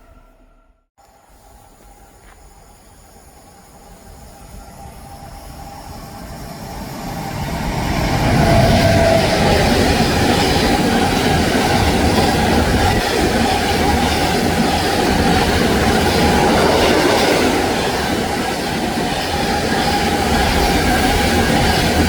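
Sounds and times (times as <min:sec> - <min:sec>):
train wheels rumbling on rails: 0:01.0 - 0:22.0.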